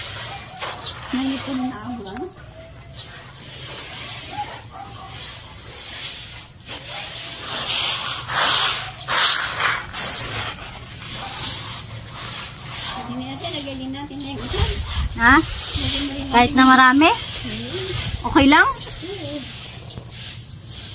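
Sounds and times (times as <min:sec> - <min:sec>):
hands raking rice grain: 0:00.0 - 0:20.9.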